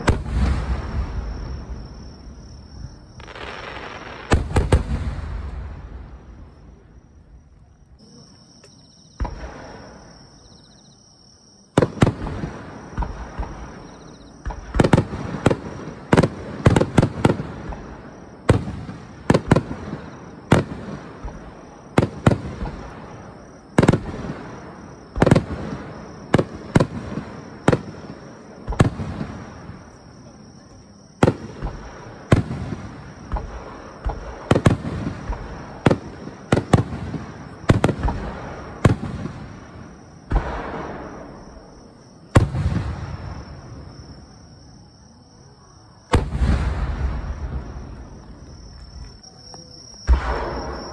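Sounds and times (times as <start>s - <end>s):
fireworks bursting with echo: 0.0s - 7.0s, 9.2s - 10.2s, 11.7s - 30.2s, 31.2s - 44.3s, 46.1s - 50.9s.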